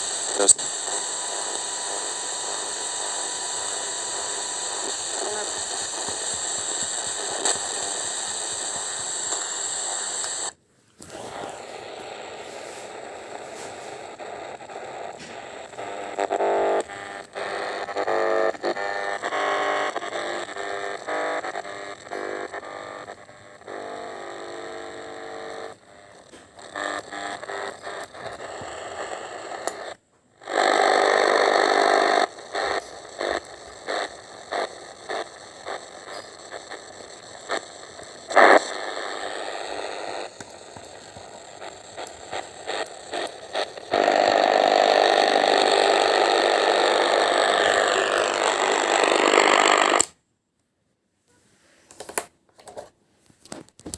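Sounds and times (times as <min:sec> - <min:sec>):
radio crackles: 0:00.0 - 0:50.2, 0:51.8 - 0:53.9
radio static hissing: 0:00.0 - 0:50.2.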